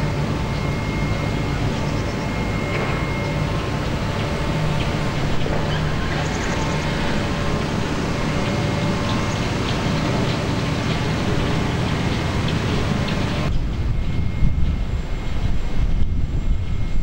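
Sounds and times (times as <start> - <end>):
crane machinery droning: 0.0 - 17.0.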